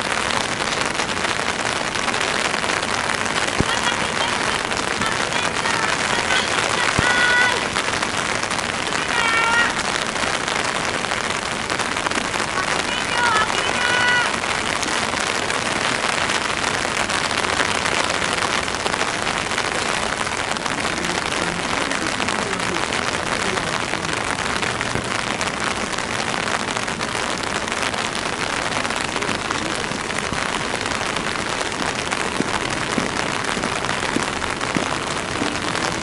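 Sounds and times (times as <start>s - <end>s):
rain on wet pavement: 0.0s - 36.0s.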